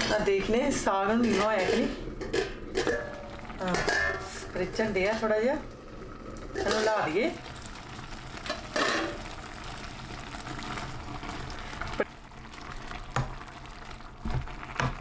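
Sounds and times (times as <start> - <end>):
greens simmering in pot: 0.0 - 15.0.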